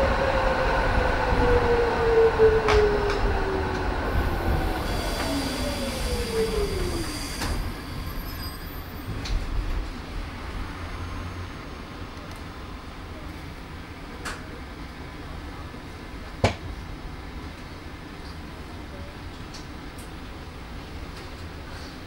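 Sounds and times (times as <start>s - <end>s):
tram running rumble and whine: 0.0s - 22.0s.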